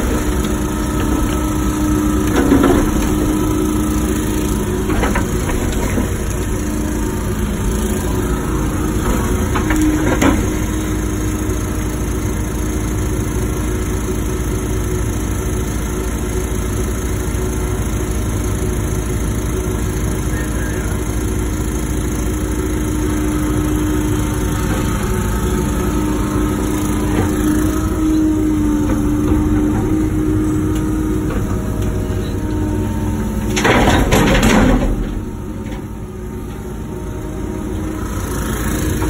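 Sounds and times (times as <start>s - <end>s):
excavator engine and hydraulic hum: 0.0s - 39.0s.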